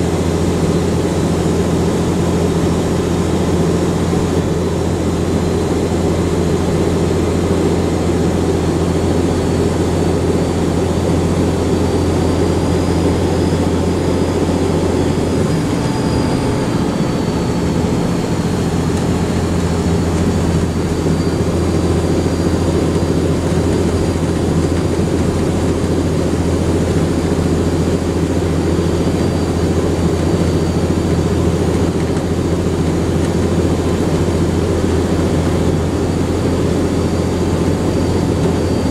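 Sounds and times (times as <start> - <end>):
bus diesel engine drone: 0.0 - 38.9.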